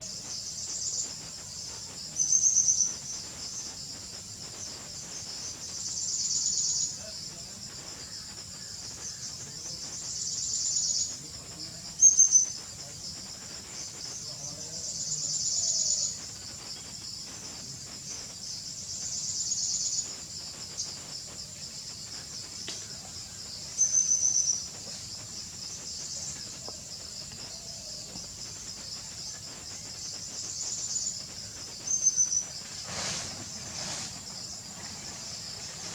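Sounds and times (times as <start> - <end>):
insects chirring: 0.0 - 35.9
louder insect chorus: 0.0 - 35.9.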